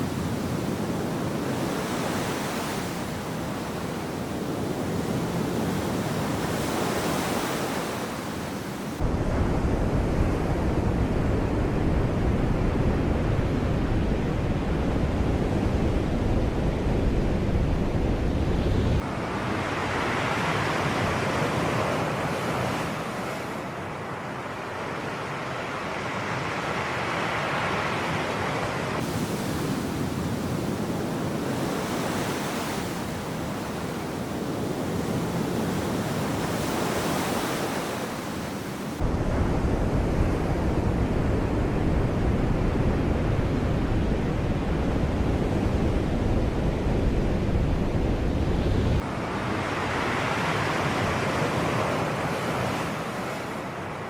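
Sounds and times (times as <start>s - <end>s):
sea waves washing on shore: 0.0s - 9.6s, 19.0s - 54.0s
wind rumble on microphone: 0.0s - 23.7s, 26.5s - 54.0s.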